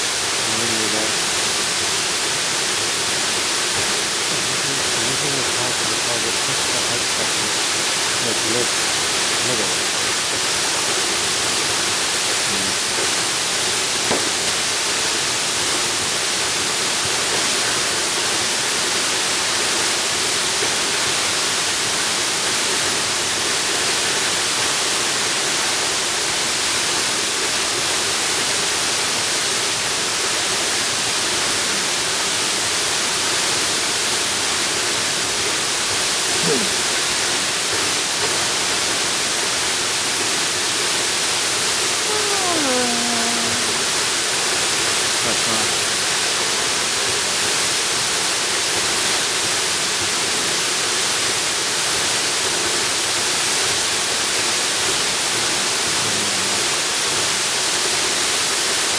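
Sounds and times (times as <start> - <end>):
rush of falling water: 0.0 - 58.9.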